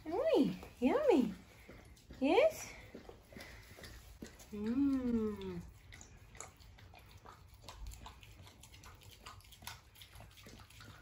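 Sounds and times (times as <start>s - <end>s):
dog licking food: 0.0s - 11.0s.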